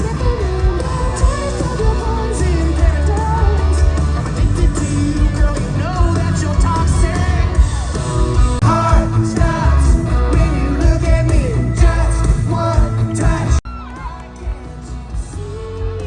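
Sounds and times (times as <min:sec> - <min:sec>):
live country band: 0:00.0 - 0:16.0
person singing: 0:00.0 - 0:16.0.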